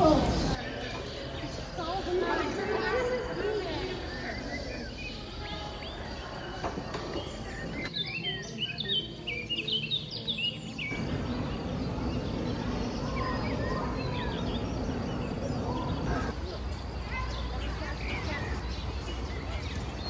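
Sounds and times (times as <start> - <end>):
small birds chirping: 0.0 - 20.0
steady background noise: 0.0 - 20.0.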